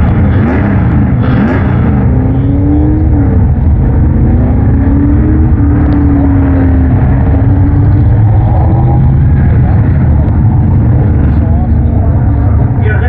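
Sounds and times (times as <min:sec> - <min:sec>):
race truck engines: 0:00.0 - 0:13.0
steady low drone: 0:00.0 - 0:13.0.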